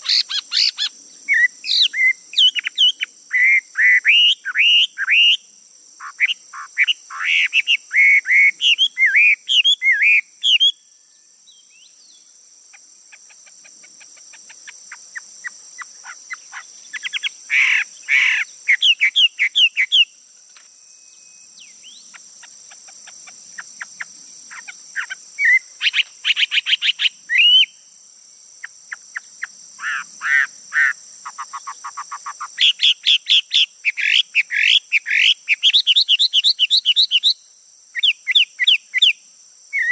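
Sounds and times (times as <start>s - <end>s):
songbird chirping and trilling: 0.0s - 12.4s, 13.1s - 27.8s, 28.6s - 39.9s
high-pitched hiss: 0.0s - 39.9s.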